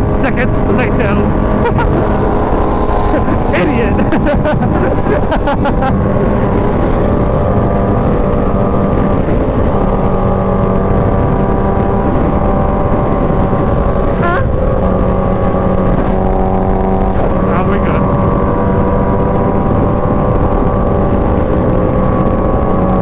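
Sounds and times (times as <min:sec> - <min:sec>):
motorcycle engine cruising: 0:00.0 - 0:23.0
wind noise on microphone: 0:00.0 - 0:23.0.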